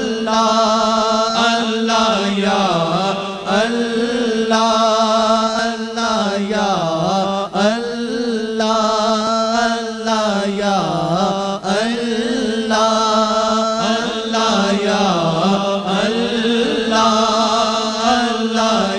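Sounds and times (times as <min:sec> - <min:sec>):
solo voice singing: 0:00.0 - 0:18.9.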